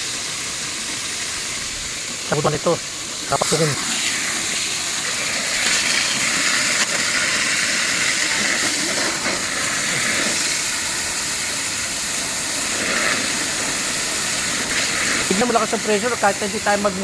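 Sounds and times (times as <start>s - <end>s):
water jetting from pipe: 0.0s - 17.0s.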